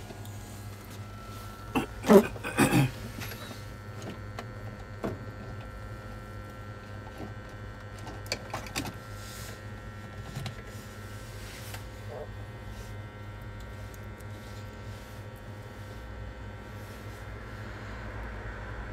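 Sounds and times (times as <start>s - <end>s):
low electrical hum: 0.0s - 18.9s.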